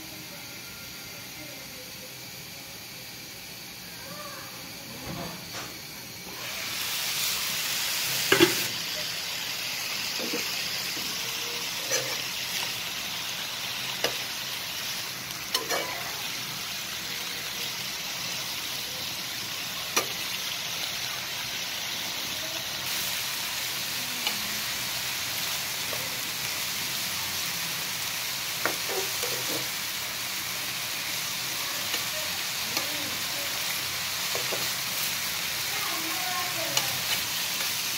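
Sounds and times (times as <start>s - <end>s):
greens sizzling in a frying pan: 0.0s - 37.9s.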